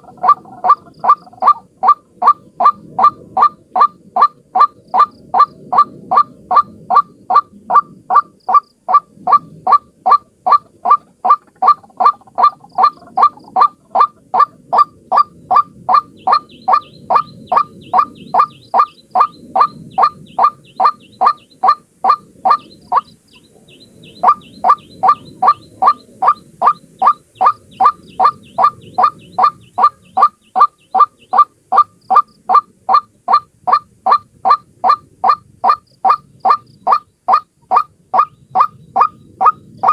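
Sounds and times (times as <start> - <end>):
waterhen calling short notes: 0.0 - 39.9.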